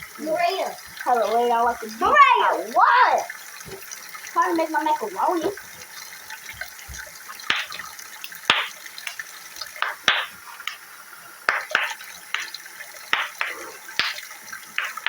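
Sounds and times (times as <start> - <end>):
tap running water into sink: 0.0 - 15.0.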